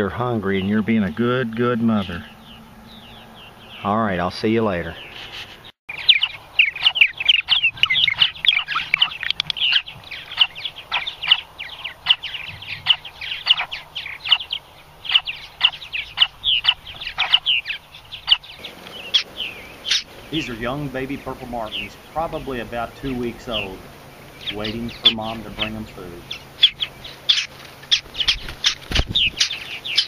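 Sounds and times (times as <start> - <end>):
nestlings chirping: 0.0 - 30.0.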